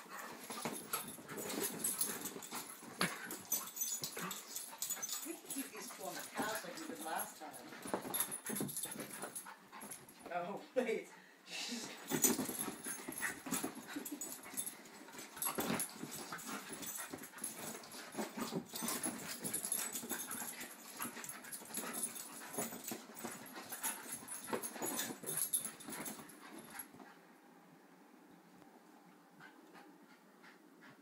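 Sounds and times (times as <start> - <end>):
dogs scuffling on furniture: 0.0 - 10.3, 12.0 - 26.9
dog play noises: 0.0 - 10.8, 11.8 - 27.5, 29.1 - 31.0.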